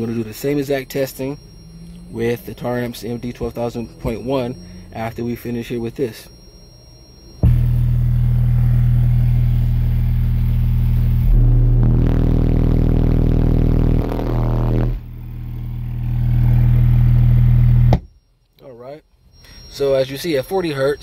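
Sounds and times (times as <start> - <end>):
distorted bass drone: 0.0 - 18.1.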